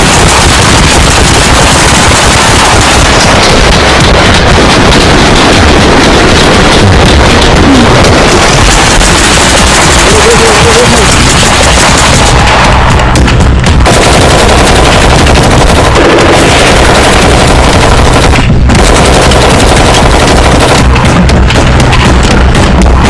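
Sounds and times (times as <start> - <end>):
paintball markers firing rapidly: 0.0 - 23.0.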